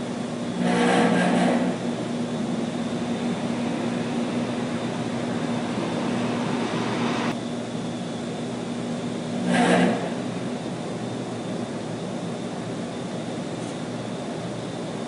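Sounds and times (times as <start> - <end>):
refrigeration units droning: 0.0 - 15.0.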